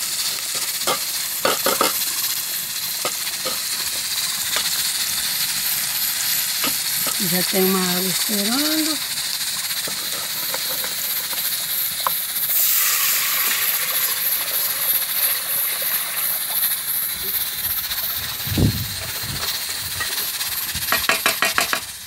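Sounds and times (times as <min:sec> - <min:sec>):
garlic sizzling in hot fat: 0:00.0 - 0:22.0
water poured into hot pan: 0:00.0 - 0:22.0.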